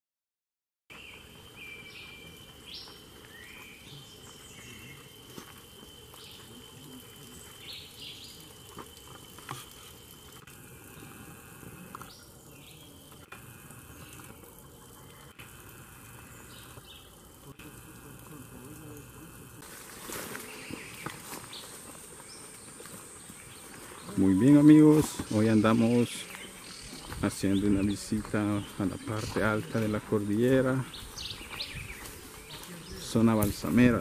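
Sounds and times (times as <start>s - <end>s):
high insect drone: 0.9s - 34.0s.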